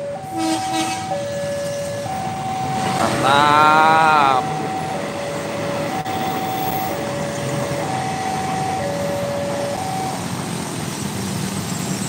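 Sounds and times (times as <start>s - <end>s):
two-tone electronic warning signal: 0.0s - 10.4s
traffic: 0.0s - 12.0s
train rumbling on tracks: 0.0s - 12.0s.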